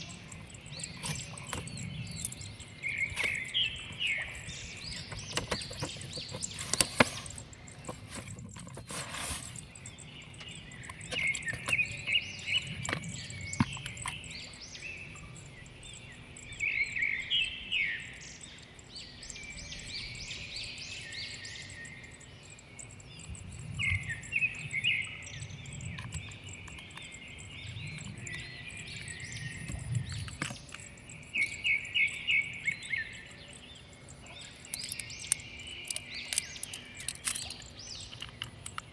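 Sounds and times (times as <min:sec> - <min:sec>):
wild birds chirping and trilling: 0:00.0 - 0:38.9.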